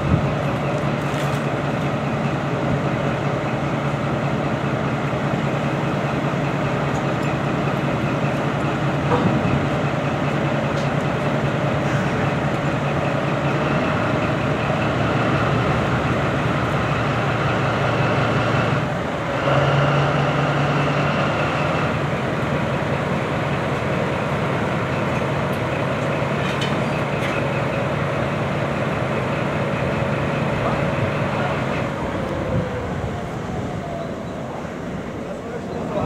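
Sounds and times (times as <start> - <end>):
heavy diesel engine whining hum: 0.0 - 36.0.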